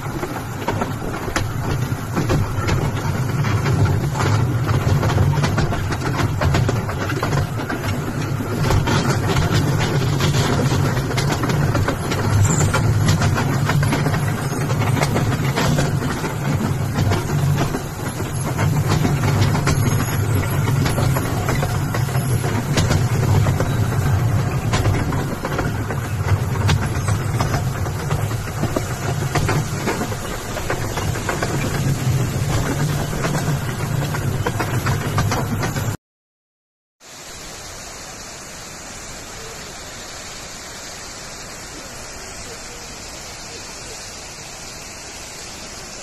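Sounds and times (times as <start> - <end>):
rail trolley rumbling on track: 0.0 - 36.0, 37.0 - 46.0.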